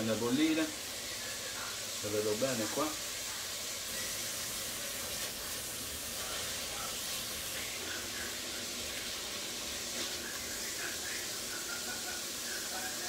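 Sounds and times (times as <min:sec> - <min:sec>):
pans sizzling on stovetop: 0:00.0 - 0:13.0
water boiling: 0:00.0 - 0:13.0.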